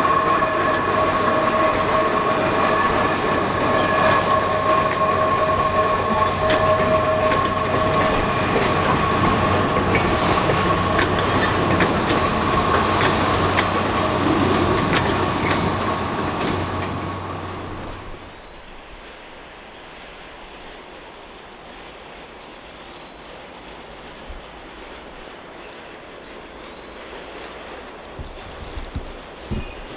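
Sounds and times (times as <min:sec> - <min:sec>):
train clanks: 0:00.0 - 0:22.2, 0:23.0 - 0:29.9
steam train wheel squeal: 0:00.0 - 0:29.9.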